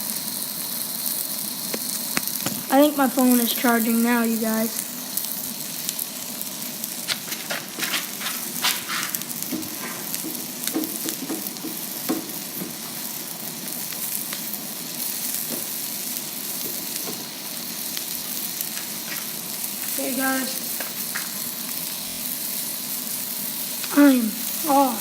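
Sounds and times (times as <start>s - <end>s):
chicken frying in a pan: 0.0s - 25.0s.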